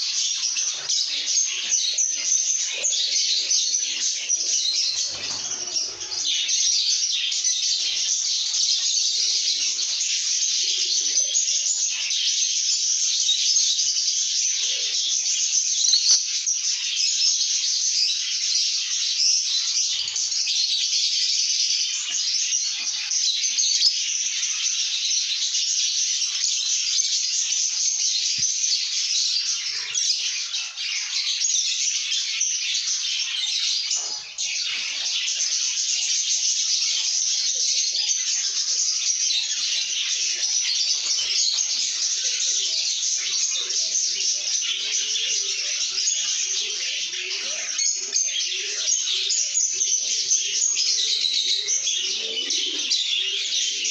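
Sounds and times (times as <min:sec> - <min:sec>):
lovebirds chattering: 0:00.0 - 0:53.9.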